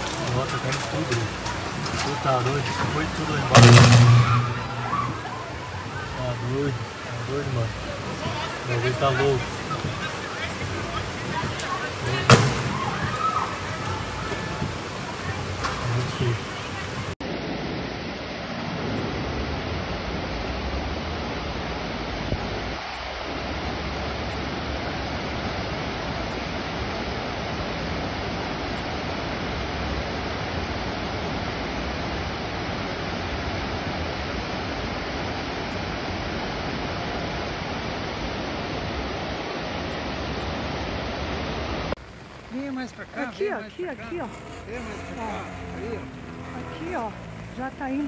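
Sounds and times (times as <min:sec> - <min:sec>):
floodwater rushing: 0:00.0 - 0:48.0.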